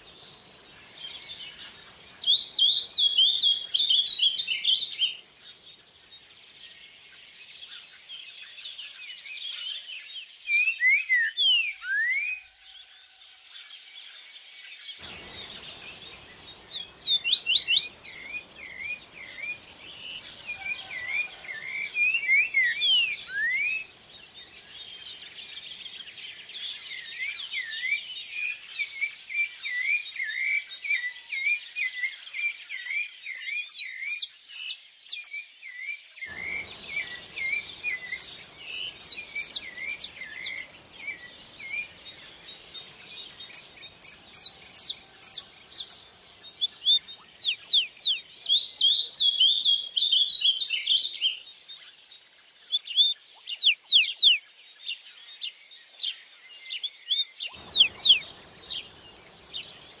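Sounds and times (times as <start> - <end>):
faint stream running: 0.0 - 12.4, 13.5 - 35.1, 36.2 - 60.0
songbirds singing: 0.0 - 60.0.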